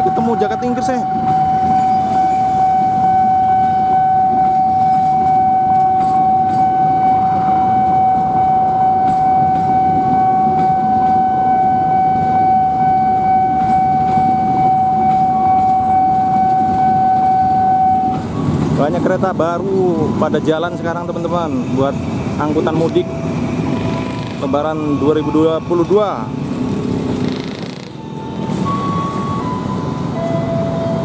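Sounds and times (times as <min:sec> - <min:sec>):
steady high-pitched tone: 0:00.0 - 0:27.1
train rumbling past on rails: 0:00.0 - 0:31.0.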